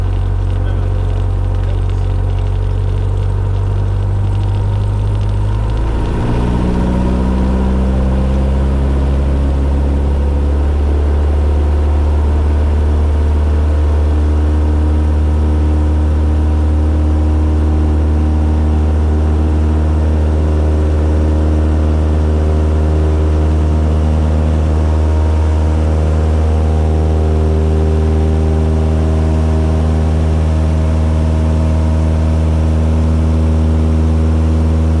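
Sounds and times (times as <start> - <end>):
light aircraft engine and propeller: 0.0 - 35.0.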